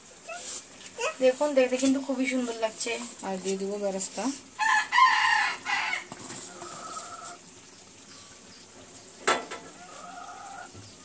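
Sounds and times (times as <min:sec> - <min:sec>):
rice cooking in pan: 0:00.0 - 0:10.0.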